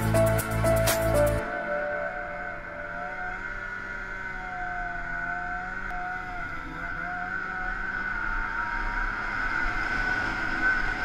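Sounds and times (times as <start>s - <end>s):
snowmobile engine whining: 1.4s - 11.0s.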